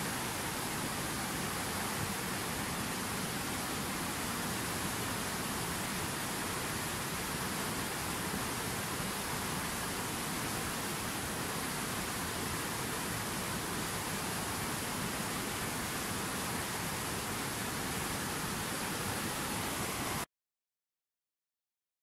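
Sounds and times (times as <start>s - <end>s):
river rapids rushing: 0.0s - 20.2s.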